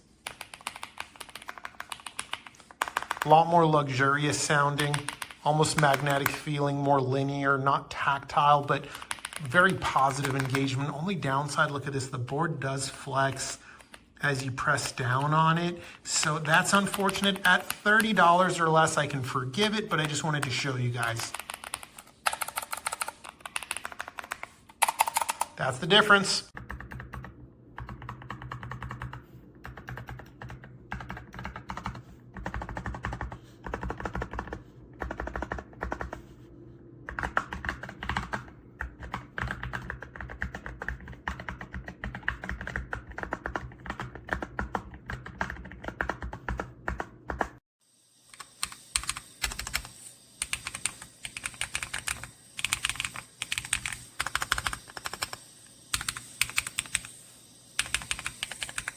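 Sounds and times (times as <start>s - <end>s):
rapid typing on keypad: 0.2s - 3.6s, 4.3s - 6.5s, 8.8s - 10.8s, 14.7s - 18.6s, 19.9s - 25.6s, 26.5s - 36.3s, 37.1s - 47.6s, 48.4s - 57.2s, 57.8s - 58.9s.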